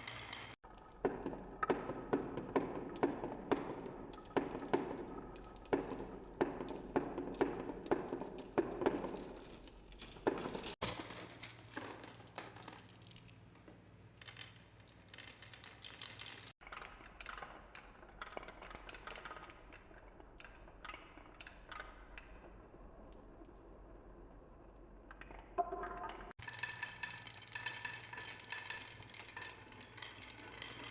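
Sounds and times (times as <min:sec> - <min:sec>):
marbles rolling on wooden track: 0:00.0 - 0:23.6, 0:24.7 - 0:30.9.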